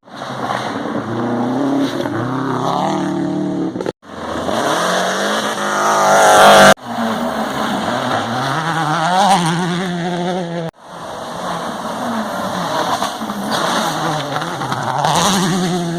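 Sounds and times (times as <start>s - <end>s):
rally car engines revving: 0.1s - 15.9s.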